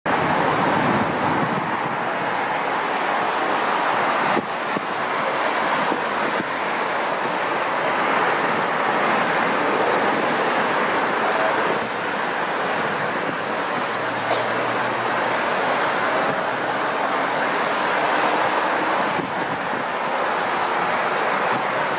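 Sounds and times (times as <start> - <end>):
jet engines rushing: 0.1 - 21.9.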